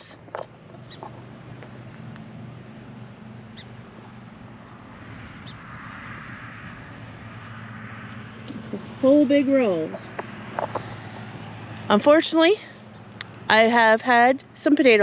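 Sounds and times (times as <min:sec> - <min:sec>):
insects trilling: 0:00.0 - 0:13.6
low steady hum: 0:00.0 - 0:15.0.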